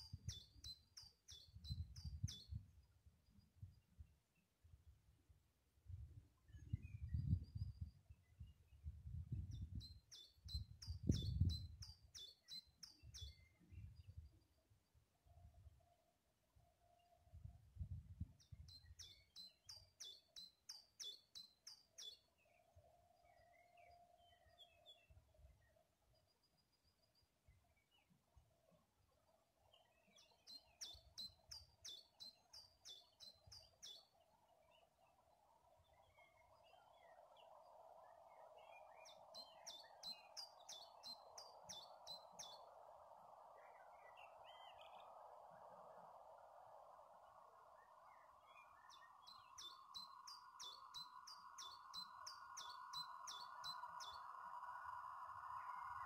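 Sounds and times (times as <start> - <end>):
bird chirps: 0.0 - 3.8, 6.4 - 14.6, 18.2 - 56.0
songbird singing: 0.0 - 4.8, 5.6 - 56.0
faint steady hum: 0.0 - 56.0.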